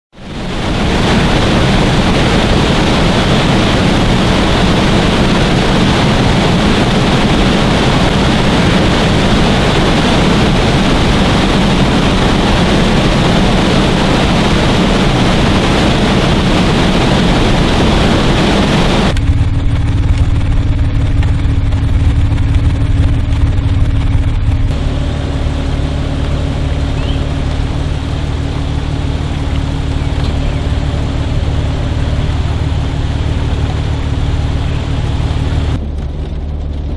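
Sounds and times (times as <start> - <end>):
floodwater pouring over spillway: 0.2 - 36.9
vehicle engine idling: 1.1 - 36.9.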